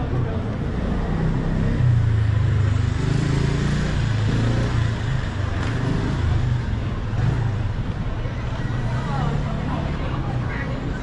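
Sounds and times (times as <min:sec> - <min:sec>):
faint voices of passers-by: 0:00.0 - 0:11.0.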